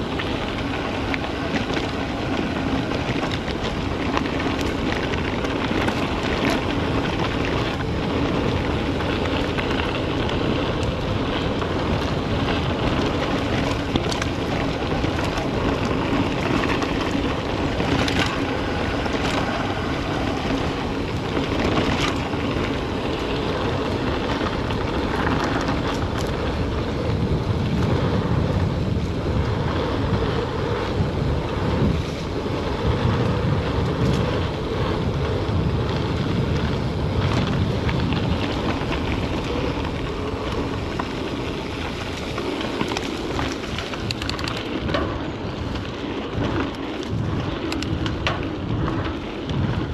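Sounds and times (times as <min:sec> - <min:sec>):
bike clicks and rattles: 0:00.0 - 0:49.9
wind rushing over microphone: 0:00.0 - 0:49.9.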